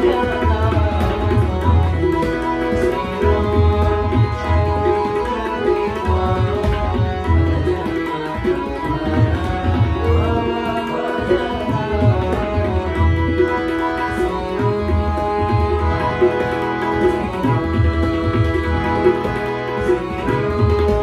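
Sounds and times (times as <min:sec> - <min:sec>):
harmonium chords: 0:00.0 - 0:21.0
man singing: 0:00.0 - 0:21.0
tabla rhythm: 0:00.0 - 0:21.0.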